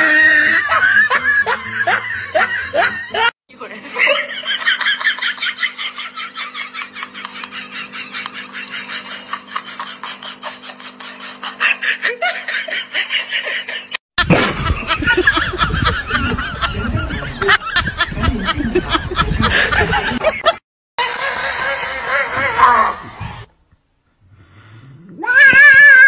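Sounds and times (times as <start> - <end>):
laughter in bursts: 0.2 - 22.8.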